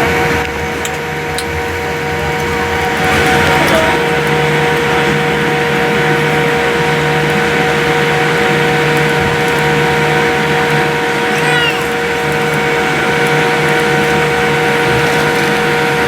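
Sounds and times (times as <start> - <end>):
jet engine cabin noise: 0.0 - 16.0.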